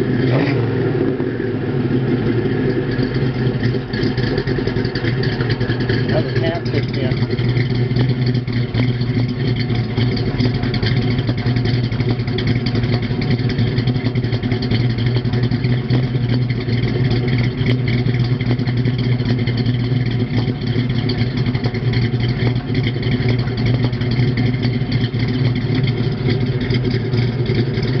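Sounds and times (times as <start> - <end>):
v eight engine idling: 0.0 - 28.0.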